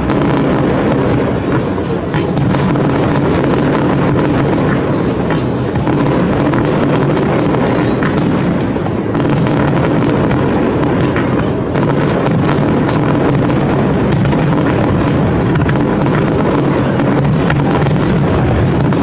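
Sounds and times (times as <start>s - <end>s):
fireworks bursts rumbling: 0.0s - 19.0s.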